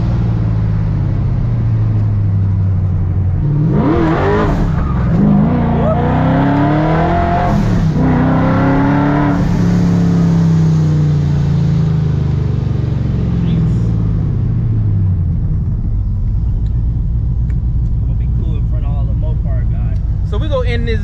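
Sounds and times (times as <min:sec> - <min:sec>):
car engine revving: 0:00.0 - 0:21.0
road rumble: 0:00.0 - 0:21.0.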